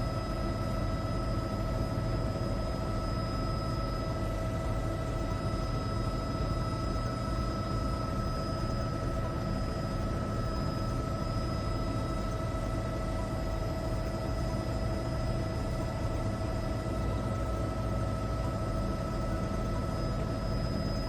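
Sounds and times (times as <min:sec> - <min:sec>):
mechanical drone with whine: 0:00.0 - 0:21.0.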